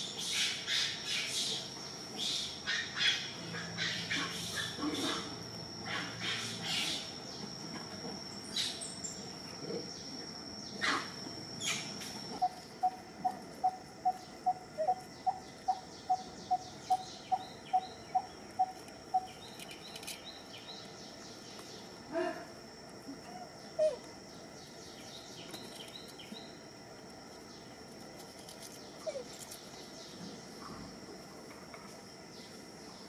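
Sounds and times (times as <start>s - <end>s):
high insect whine: 0.0s - 33.0s.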